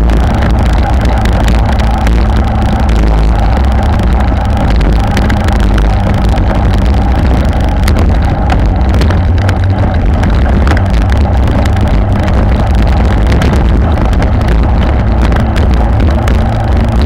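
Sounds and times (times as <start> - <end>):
bike tyres rumbling on brick: 0.0 - 17.0
sharp clicks and rattles: 0.0 - 17.0
wind buffeting microphone: 0.0 - 17.0.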